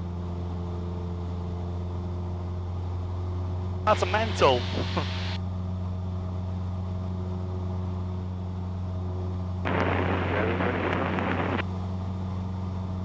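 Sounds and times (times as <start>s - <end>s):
aircraft engine droning: 0.0s - 13.0s.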